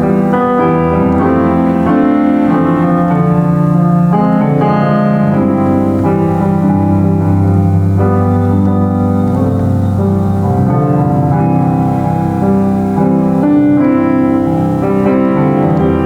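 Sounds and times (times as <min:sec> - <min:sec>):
solo piano playing a hymn: 0:00.0 - 0:16.0.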